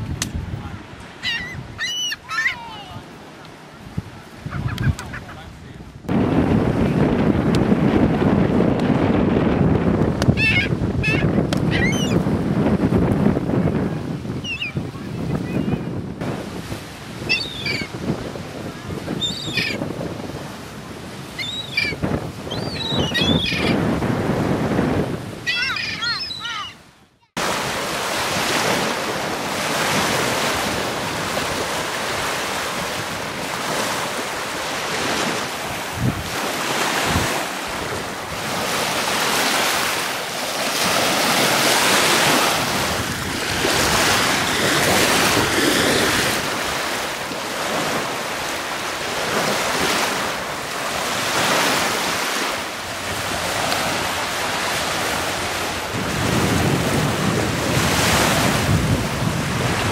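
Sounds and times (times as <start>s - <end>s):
wind on microphone: 0.0s - 3.1s, 3.8s - 26.8s, 27.4s - 59.9s
waves washing up a beach: 0.0s - 25.9s, 26.6s - 59.9s.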